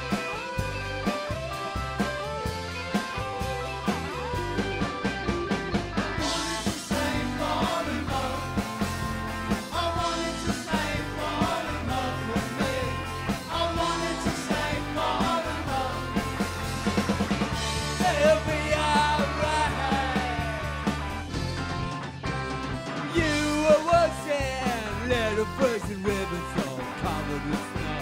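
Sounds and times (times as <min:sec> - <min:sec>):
rock song with drums and vocals: 0:00.0 - 0:28.0.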